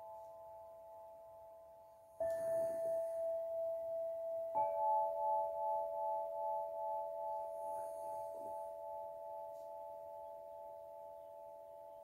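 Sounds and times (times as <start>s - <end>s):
crystal harp tones ringing: 2.2s - 12.0s.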